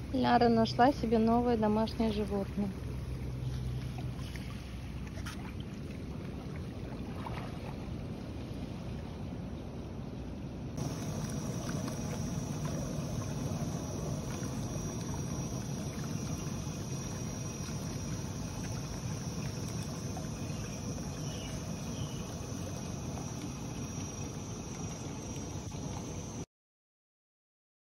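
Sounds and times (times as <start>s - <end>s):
outdoor background noise: 0.0s - 26.5s
pool jets bubbling water: 0.0s - 26.5s.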